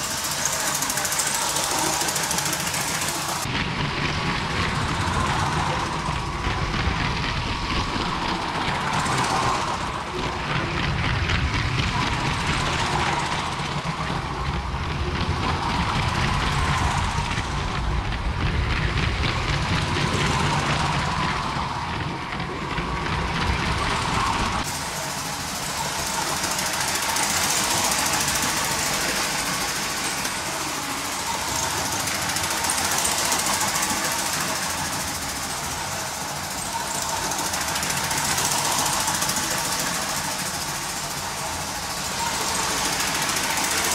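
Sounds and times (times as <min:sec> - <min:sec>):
model train motors whirring: 0:00.0 - 0:43.9
wheels clicking over plastic track: 0:00.0 - 0:43.9.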